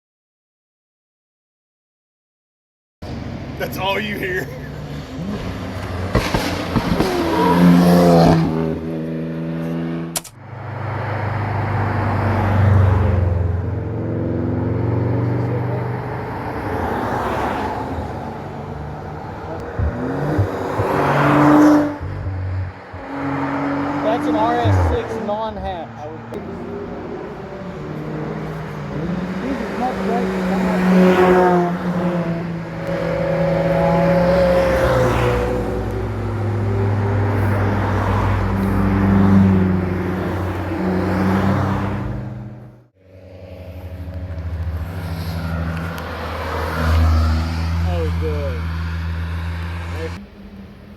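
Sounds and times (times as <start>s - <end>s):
car engine passing: 3.0s - 50.9s.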